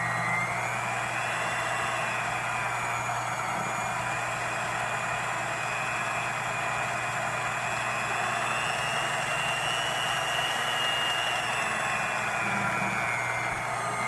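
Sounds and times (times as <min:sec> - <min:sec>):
electric hand mixer running: 0:00.0 - 0:14.0.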